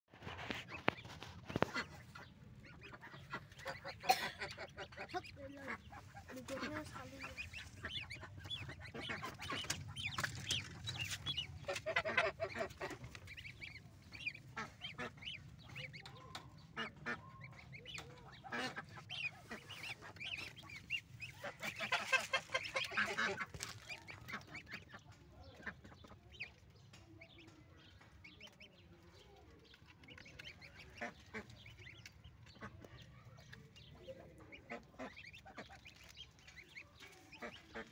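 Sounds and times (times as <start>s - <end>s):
goslings peeping: 0.1s - 37.9s.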